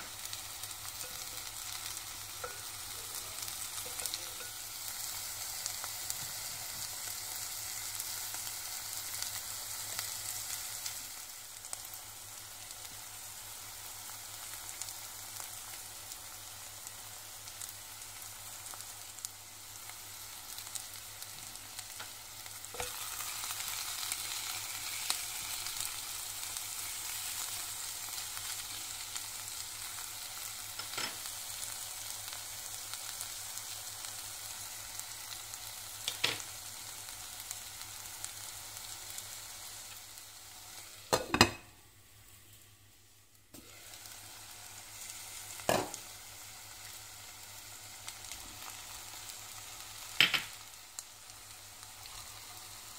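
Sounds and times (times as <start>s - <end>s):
prawns sizzling in oil: 0.0s - 52.9s.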